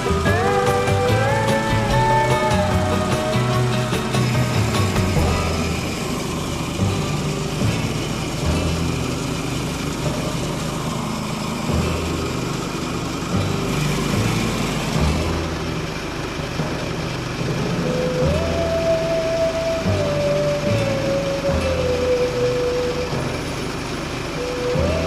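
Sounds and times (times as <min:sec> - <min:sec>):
band sawmill cutting log: 0:00.0 - 0:25.0.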